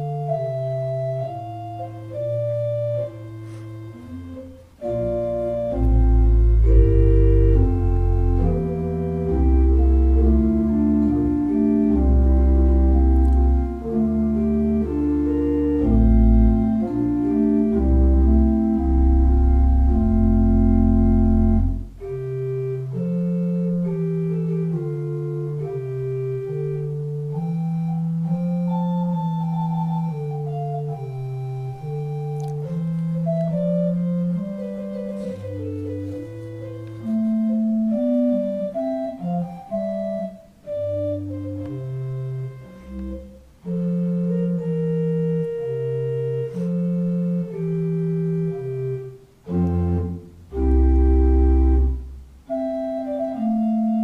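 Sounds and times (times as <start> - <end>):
deep organ pedal bass: 0.0 - 54.0
pipe organ playing chords: 0.0 - 54.0.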